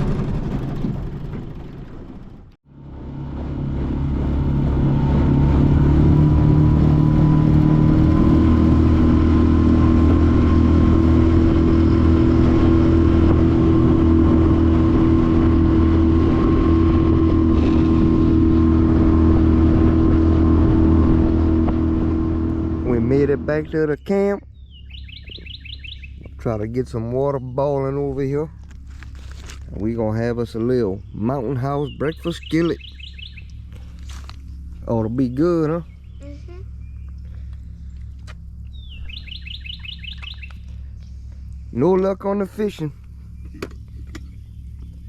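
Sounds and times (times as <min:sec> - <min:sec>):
boat motor humming: 0:00.0 - 0:45.0.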